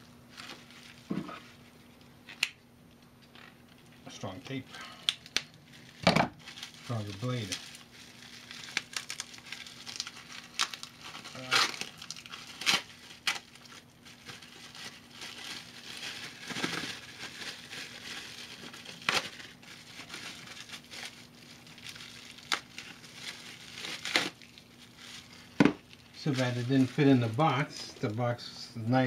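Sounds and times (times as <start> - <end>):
bubble wrap crinkling: 0.0 - 2.6, 3.3 - 29.0.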